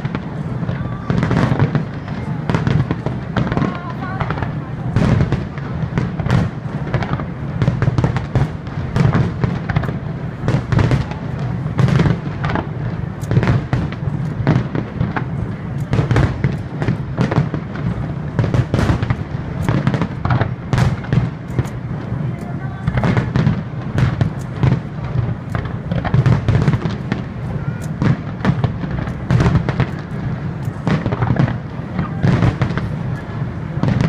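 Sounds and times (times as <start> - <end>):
fireworks bangs and cracks: 0.0 - 34.0.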